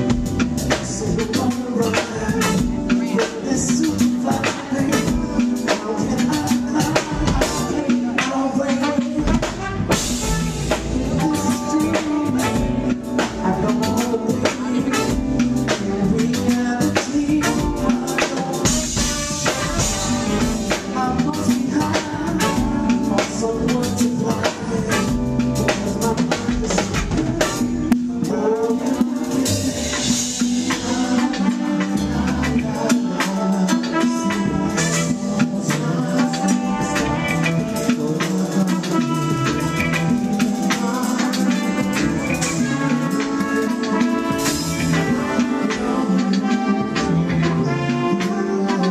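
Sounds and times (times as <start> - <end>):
band playing: 0.0 - 48.9
drum kit beat: 0.0 - 48.9
man singing: 0.0 - 48.9.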